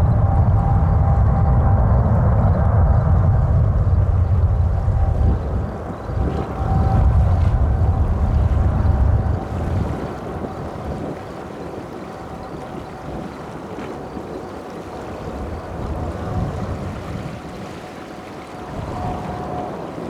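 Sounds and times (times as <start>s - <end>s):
distant jet engines rumbling: 0.0s - 20.0s
wind buffeting microphone: 0.0s - 20.0s.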